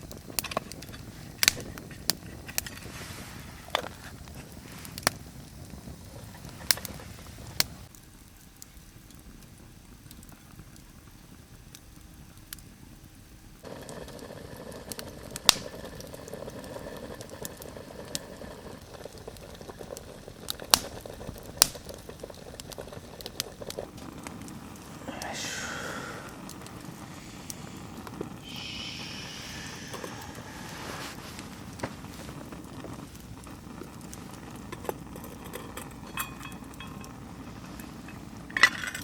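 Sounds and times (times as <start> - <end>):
campfire crackling and popping: 0.0 - 39.0
pot simmering: 0.0 - 39.0.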